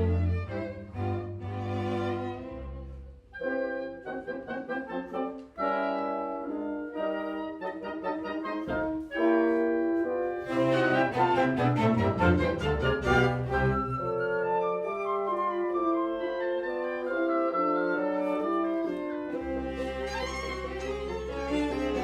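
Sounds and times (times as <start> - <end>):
chamber orchestra playing: 0.0 - 22.0.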